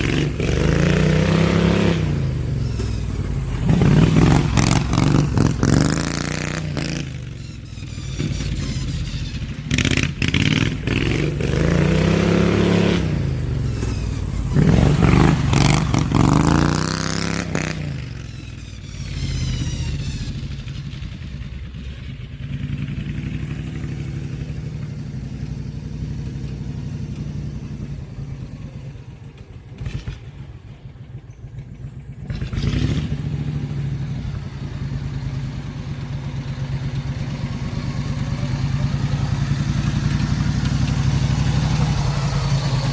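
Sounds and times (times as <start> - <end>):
riding mower engine revving: 0.0 - 42.9.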